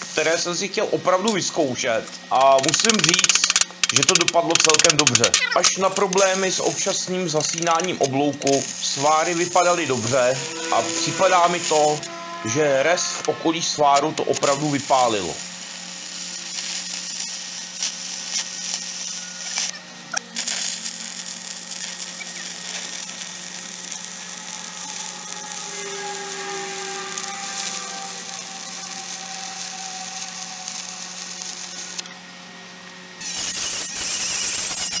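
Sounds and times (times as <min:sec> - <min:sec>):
welding arc crackling: 0:00.0 - 0:35.0
loud high hiss: 0:02.3 - 0:32.4.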